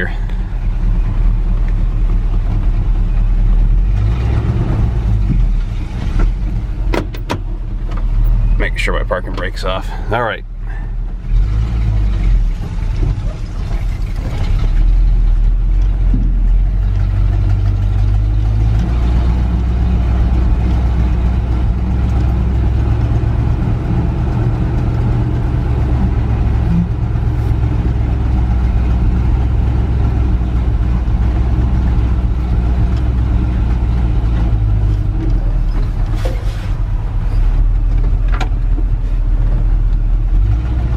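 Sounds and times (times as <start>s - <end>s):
truck engine exhaust drone: 0.0s - 40.9s.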